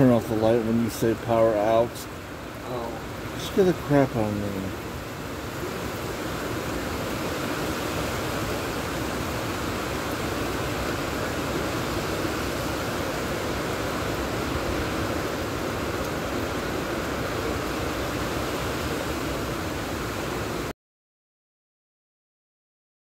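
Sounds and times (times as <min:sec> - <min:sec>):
rain: 0:00.0 - 0:20.7
strong wind through trees: 0:00.0 - 0:20.7.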